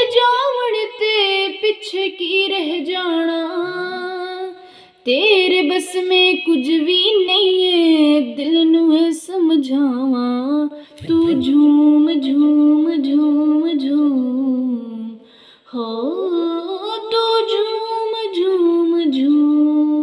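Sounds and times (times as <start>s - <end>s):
woman singing into microphone: 0.0s - 20.0s.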